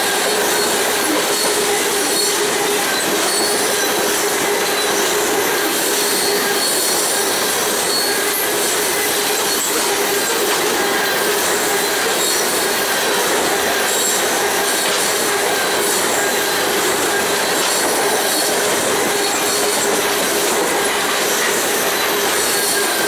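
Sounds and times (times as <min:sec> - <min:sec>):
freight train rolling: 0:00.0 - 0:23.0
wheels squealing on rails: 0:00.0 - 0:23.0.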